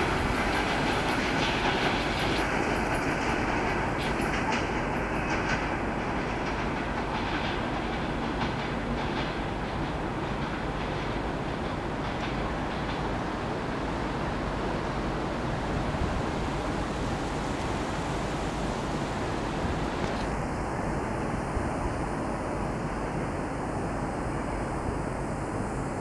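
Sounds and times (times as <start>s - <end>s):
train coaches rolling on track: 0.0s - 25.9s.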